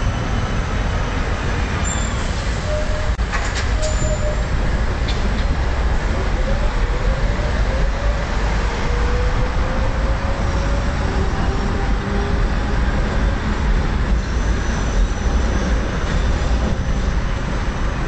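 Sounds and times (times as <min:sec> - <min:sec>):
traffic noise: 0:00.0 - 0:18.0
tram passing with low rumble: 0:00.0 - 0:18.0.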